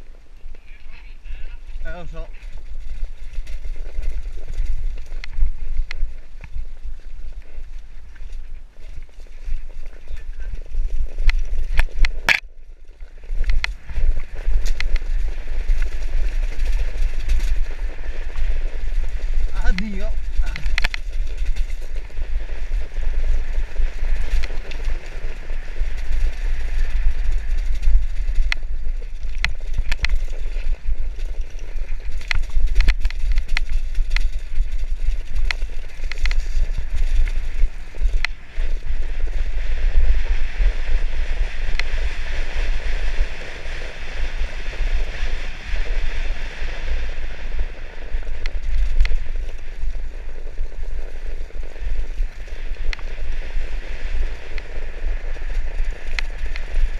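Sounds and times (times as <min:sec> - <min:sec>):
wind on microphone: 0:00.0 - 0:56.9
bike rattling over bumps: 0:01.6 - 0:56.9.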